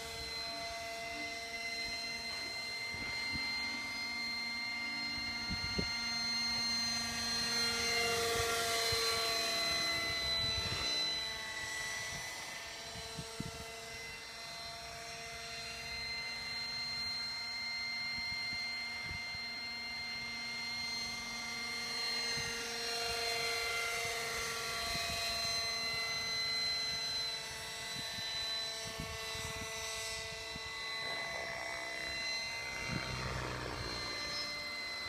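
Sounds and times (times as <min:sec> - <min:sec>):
model helicopter rotor whine: 0:00.0 - 0:35.0.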